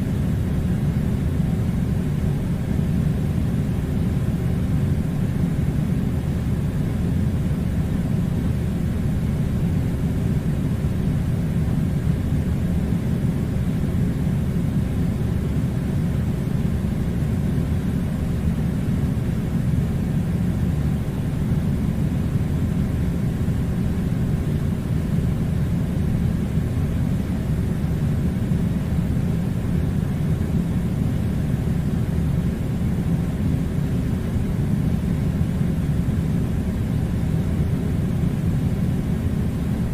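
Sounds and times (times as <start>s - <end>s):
air conditioner rumbling: 0.0s - 39.9s.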